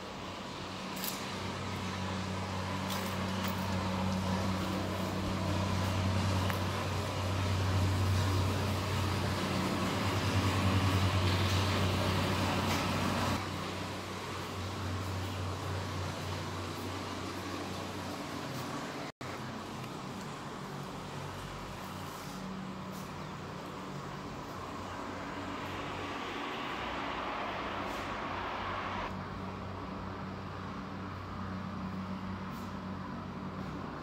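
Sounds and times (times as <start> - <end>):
low mechanical hum: 0.0 - 34.0
outdoor background noise: 0.0 - 34.0.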